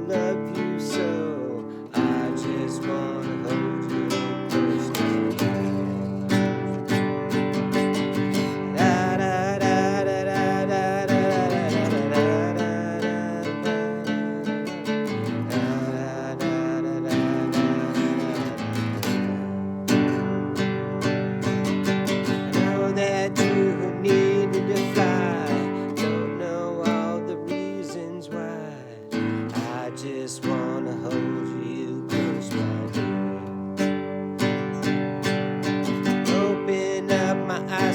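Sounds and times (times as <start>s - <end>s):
acoustic guitar strumming chords: 0.0s - 37.9s.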